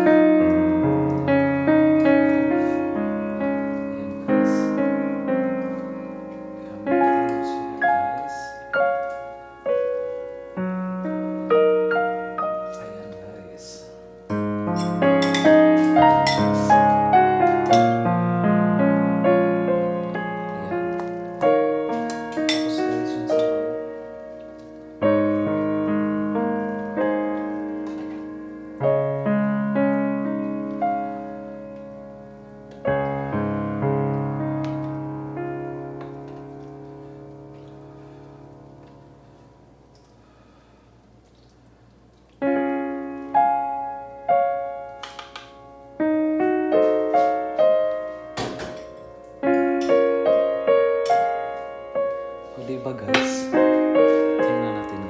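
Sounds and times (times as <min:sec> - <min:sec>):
slow piano chords: 0:00.0 - 0:55.0.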